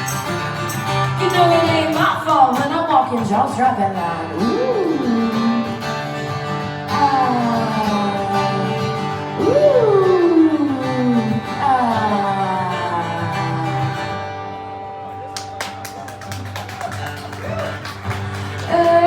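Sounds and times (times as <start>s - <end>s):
guitar with sliding notes: 0.0s - 19.0s.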